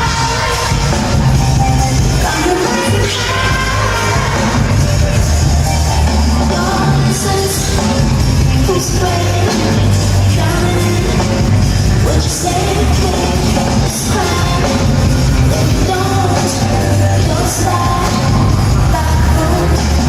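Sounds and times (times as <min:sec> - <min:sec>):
electronic music bass line: 0:00.0 - 0:20.0
person singing: 0:00.0 - 0:20.0.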